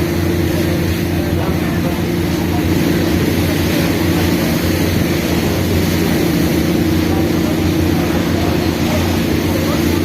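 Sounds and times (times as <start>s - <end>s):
constant rushing noise: 0.0s - 10.0s
ferry engine droning: 0.0s - 10.0s.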